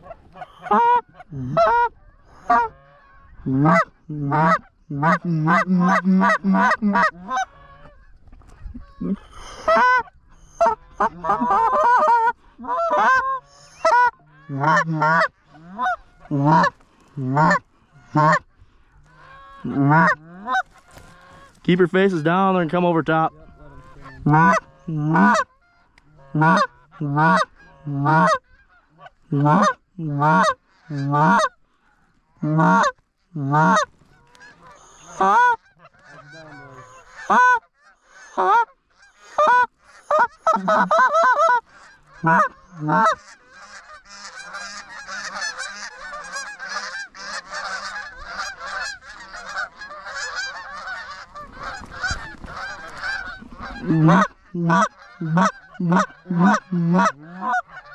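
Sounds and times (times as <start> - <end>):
geese honking: 0.0 - 57.9.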